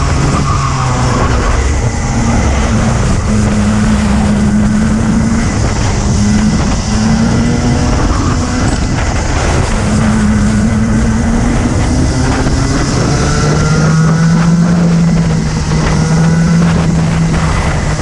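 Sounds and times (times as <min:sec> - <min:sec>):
racing kart engine running: 0:00.0 - 0:18.0
wind buffeting microphone: 0:00.0 - 0:18.0.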